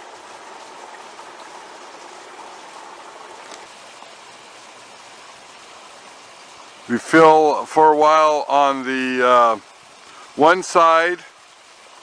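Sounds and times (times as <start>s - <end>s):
water rushing from hose: 0.0s - 12.0s.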